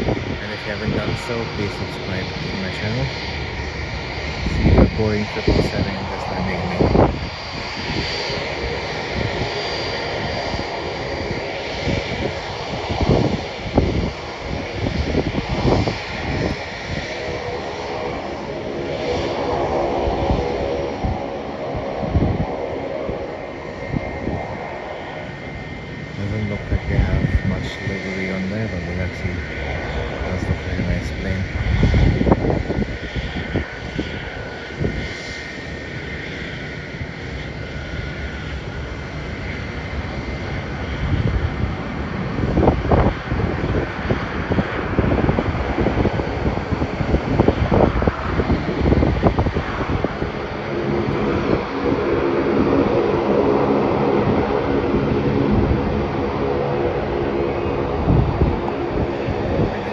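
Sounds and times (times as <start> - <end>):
jet engine whooshing hum: 0.0 - 59.9
wind buffeting microphone: 0.0 - 59.9.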